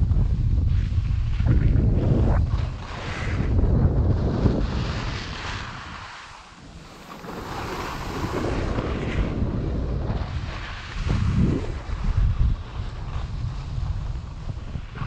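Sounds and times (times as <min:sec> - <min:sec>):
wind rushing over microphone: 0:00.0 - 0:15.0
snowboard edges scraping snow: 0:00.1 - 0:15.0.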